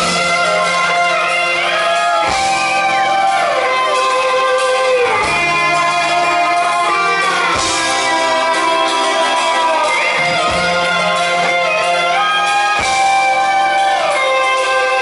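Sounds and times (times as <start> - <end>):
electric guitar bending long notes: 0.0 - 15.0
rock band playing live: 0.0 - 15.0.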